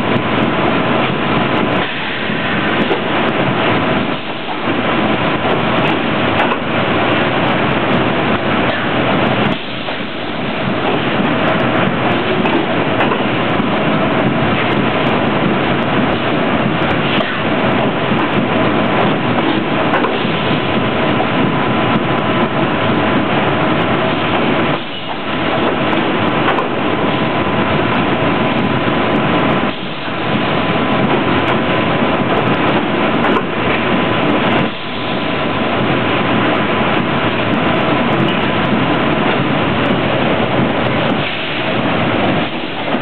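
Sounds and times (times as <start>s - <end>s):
roller conveyor machinery noise: 0.0s - 43.0s.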